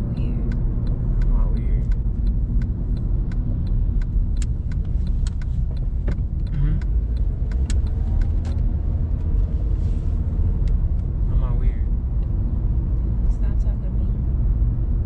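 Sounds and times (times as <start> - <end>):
low rumble of engine and road: 0.0 - 15.0.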